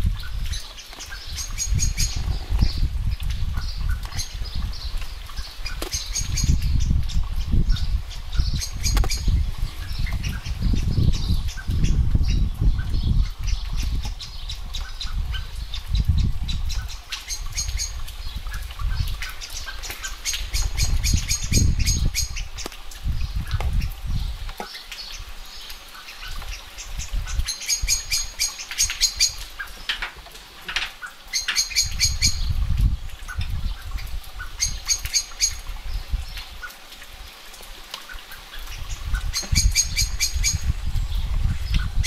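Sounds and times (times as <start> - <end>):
wind buffeting microphone: 0.0 - 30.1, 30.7 - 37.5, 38.4 - 42.0
light rain: 0.0 - 42.0.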